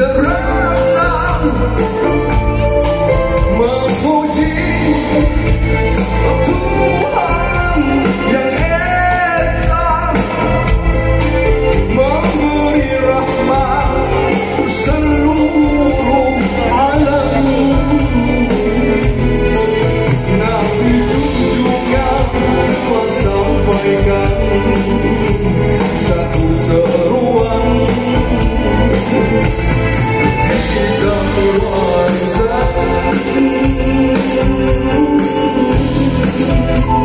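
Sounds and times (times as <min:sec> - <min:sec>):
man singing into a microphone: 0:00.0 - 0:10.8, 0:11.7 - 0:19.2, 0:20.0 - 0:29.5, 0:30.4 - 0:37.0
live band playing devotional song: 0:00.0 - 0:37.0.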